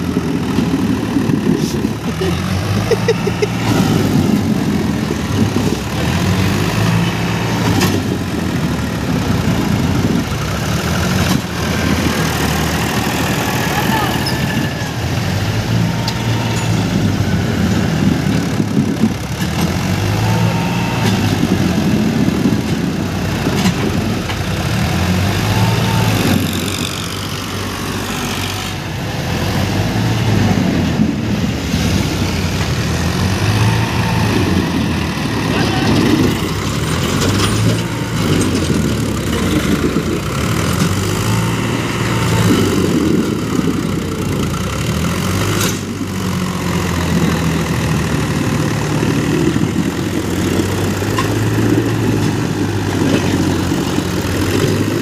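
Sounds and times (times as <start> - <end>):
tractor diesel engine labouring: 0.0 - 55.0.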